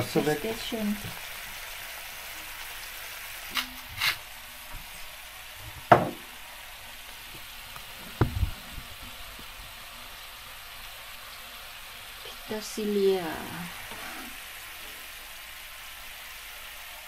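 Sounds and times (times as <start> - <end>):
clams sizzling in a frying pan: 0.0 - 17.0.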